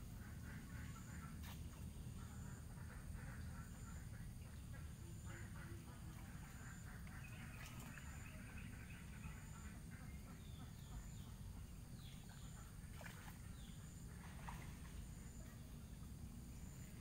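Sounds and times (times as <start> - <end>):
faint birds chirping: 0.0 - 17.0
low steady rumble: 0.0 - 17.0.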